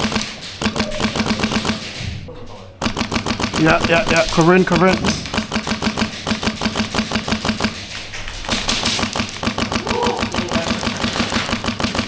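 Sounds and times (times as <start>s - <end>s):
full-auto airsoft fire: 0.0s - 2.2s, 2.8s - 12.0s.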